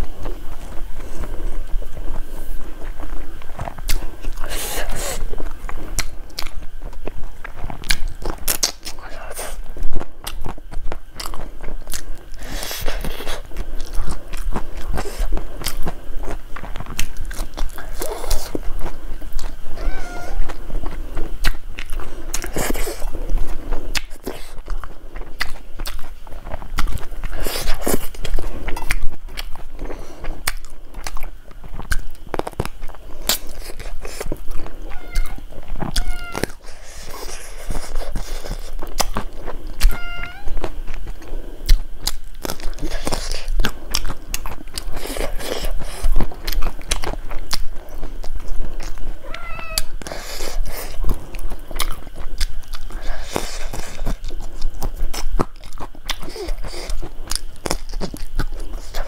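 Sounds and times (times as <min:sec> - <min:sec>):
wet chewing and lip-smacking: 0:00.0 - 0:59.0.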